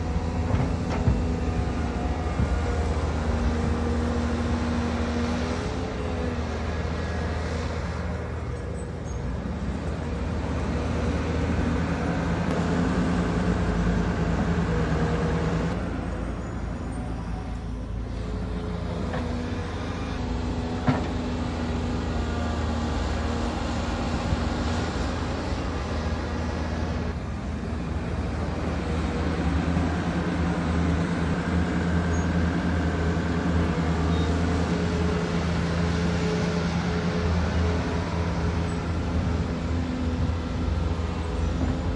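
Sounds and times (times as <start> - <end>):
diesel engine of heavy machinery: 0.0 - 41.9.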